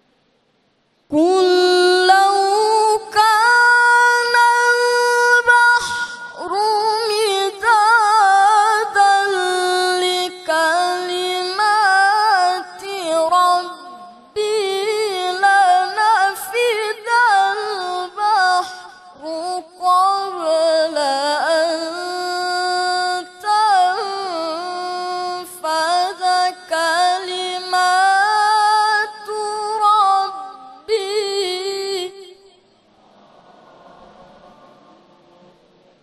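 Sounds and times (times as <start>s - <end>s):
man reciting in melodic chant: 1.2s - 32.5s.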